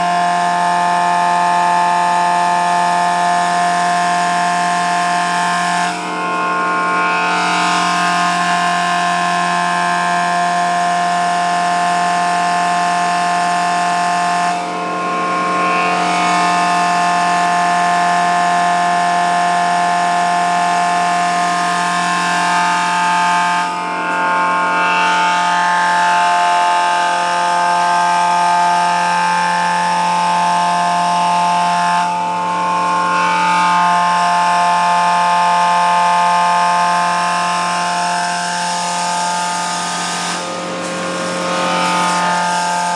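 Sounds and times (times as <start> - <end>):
feed mill machine whining: 0.0 - 42.9.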